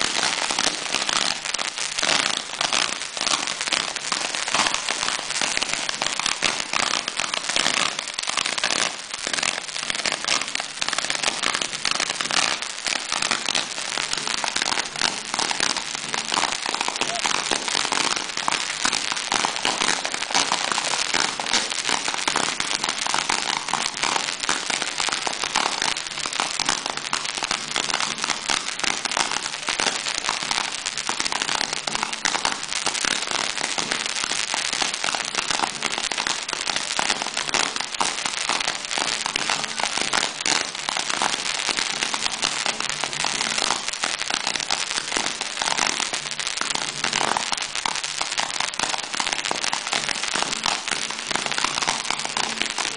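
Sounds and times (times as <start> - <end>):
fireworks popping and crackling: 0.0 - 52.9.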